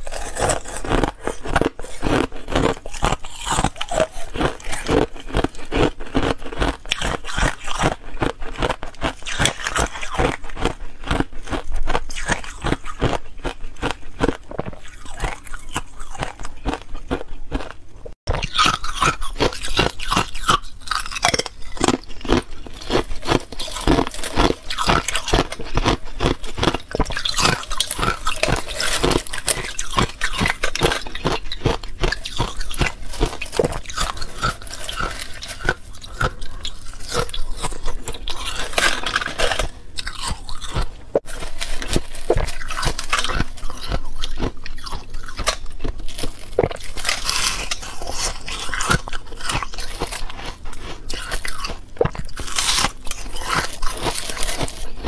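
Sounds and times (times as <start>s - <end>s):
ice crunching while chewed: 0.0s - 55.0s.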